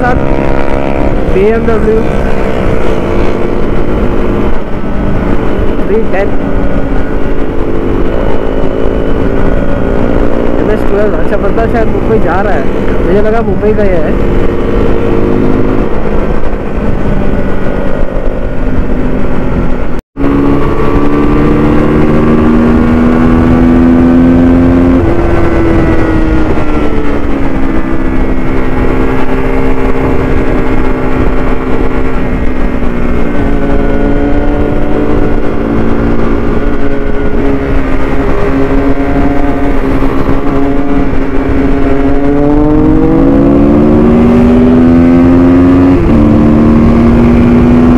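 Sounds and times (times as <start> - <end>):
motorcycle engine cruising: 0.0 - 47.9
wind noise rushing: 0.0 - 47.9.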